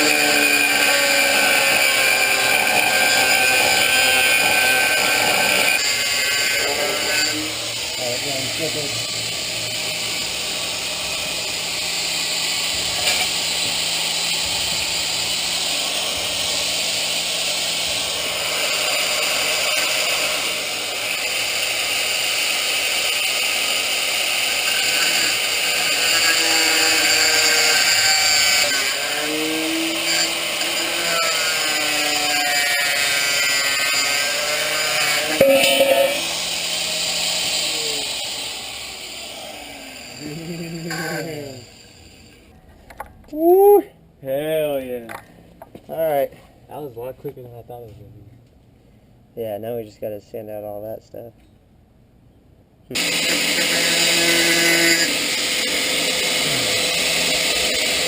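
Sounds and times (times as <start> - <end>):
power grinder cutting metal: 0.0 - 42.4, 52.9 - 58.0.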